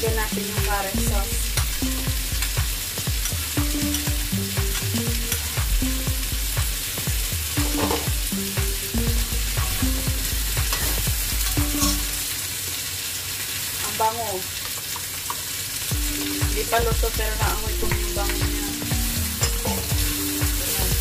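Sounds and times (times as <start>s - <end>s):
background music with low beat: 0.0s - 12.3s, 15.9s - 21.0s
food sizzling in a pan: 0.0s - 21.0s.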